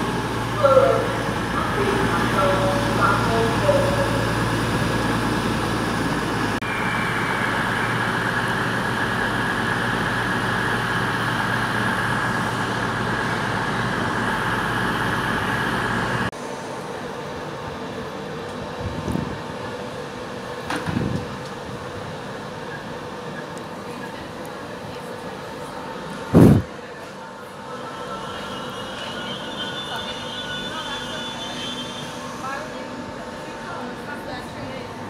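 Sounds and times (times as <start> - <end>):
diesel train engine drone: 0.0 - 35.0
train noise with high whine: 0.0 - 35.0.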